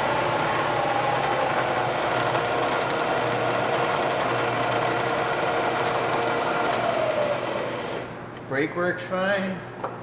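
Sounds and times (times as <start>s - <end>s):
milling machine humming: 0.0s - 8.2s.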